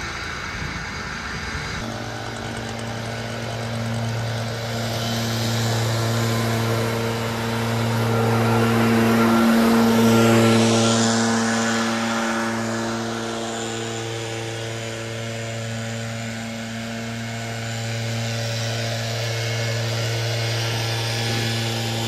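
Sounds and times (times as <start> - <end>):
leaf blower engine hum: 0.0 - 22.0.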